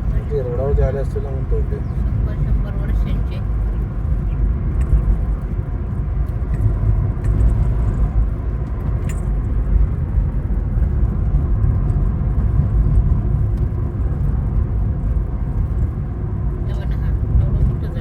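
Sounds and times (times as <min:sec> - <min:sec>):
road and wind noise: 0:00.0 - 0:18.0
vehicle rumble: 0:00.0 - 0:18.0.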